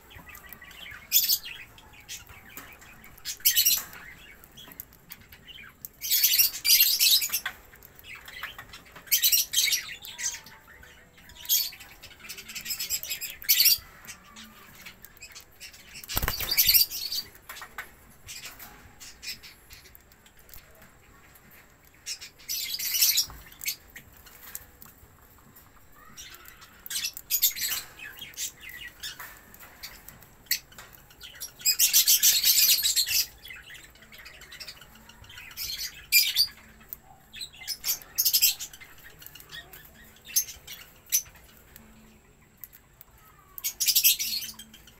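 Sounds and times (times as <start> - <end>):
budgerigars chirping and squawking: 0.0 - 44.9.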